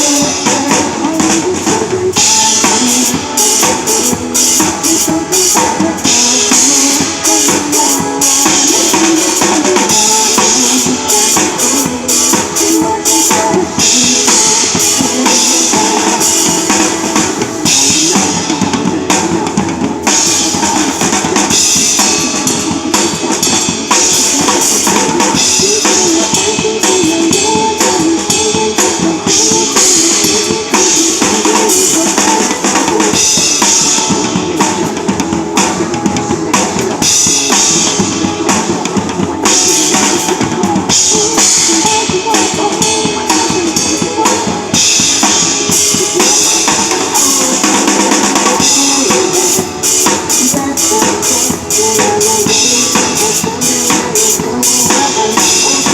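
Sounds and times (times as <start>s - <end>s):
drum kit playing: 0.0s - 55.9s
song melody: 0.0s - 55.9s.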